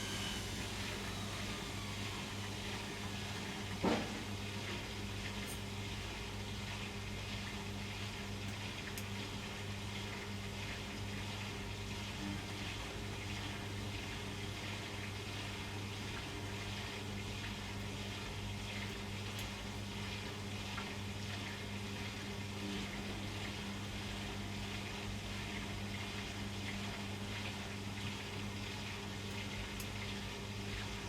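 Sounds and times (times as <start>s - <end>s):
steady electrical hum: 0.0s - 31.0s
water rushing in washing machine: 0.0s - 31.0s.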